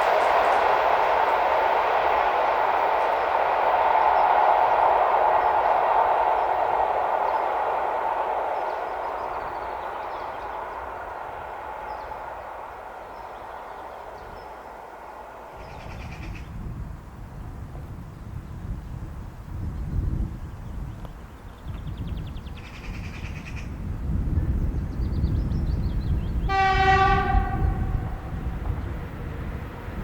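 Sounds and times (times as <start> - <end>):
train rolling on rails: 0.0 - 30.0
wind rumble on microphone: 0.0 - 30.0.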